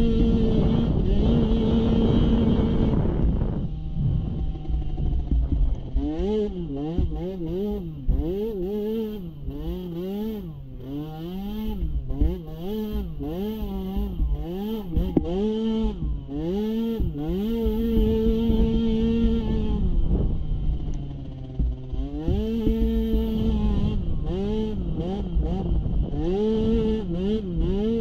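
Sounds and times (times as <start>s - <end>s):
small atv engine revving: 0.0s - 28.0s.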